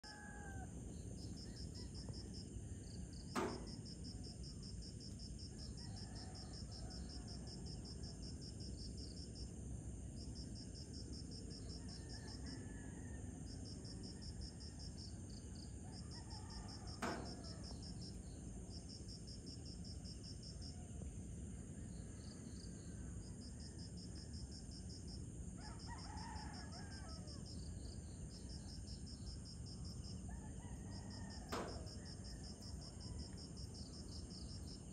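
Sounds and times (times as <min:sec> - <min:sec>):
night insects chirping in trills: 0:00.0 - 0:34.9.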